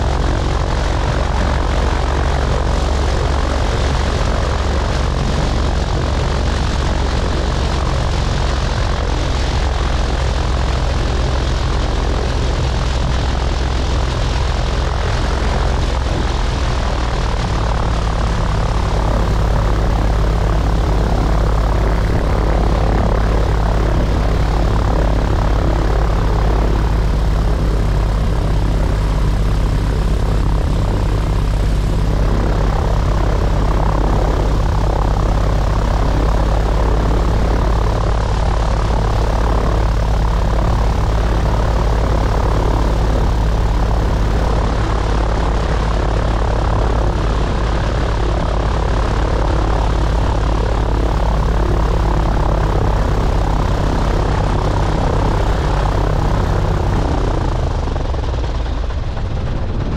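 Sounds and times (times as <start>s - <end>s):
plane engine and propeller running: 0.0s - 59.9s.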